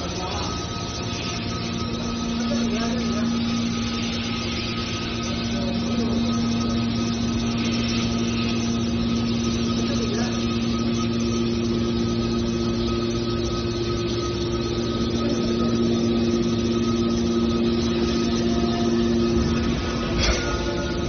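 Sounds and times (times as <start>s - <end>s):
hydraulic power unit humming: 0.0s - 21.0s.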